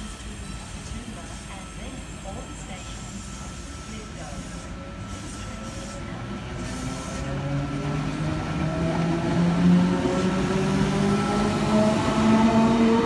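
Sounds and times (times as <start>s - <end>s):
rumble of wheels on rail: 0.0s - 13.0s.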